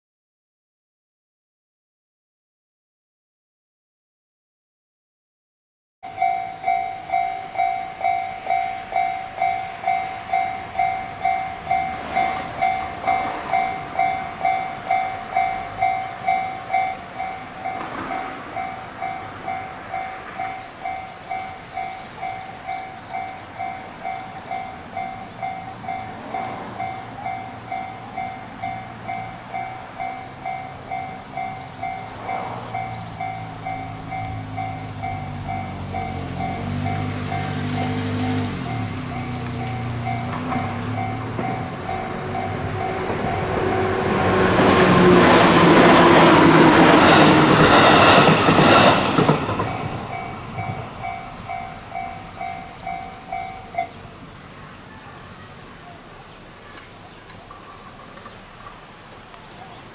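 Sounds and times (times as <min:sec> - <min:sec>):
level-crossing electronic warning bell: 0:06.0 - 0:54.1.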